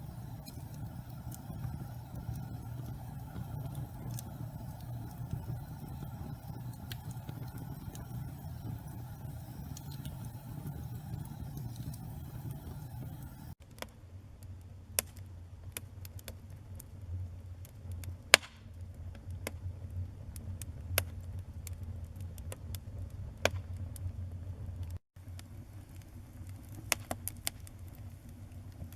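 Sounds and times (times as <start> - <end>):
crackles and pops of burning logs: 0.0 - 13.6, 17.6 - 24.2, 24.8 - 28.9
rumble of flames: 0.0 - 13.6, 18.8 - 28.9.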